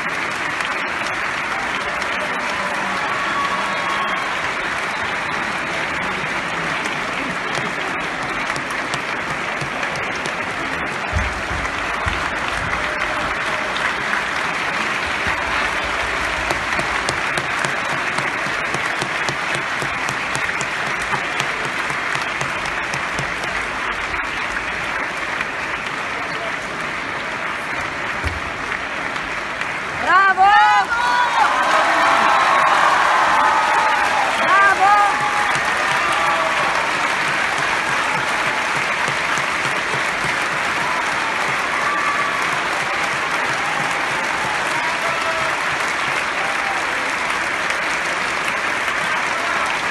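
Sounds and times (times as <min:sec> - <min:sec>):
audience applauding: 0:00.0 - 0:49.9.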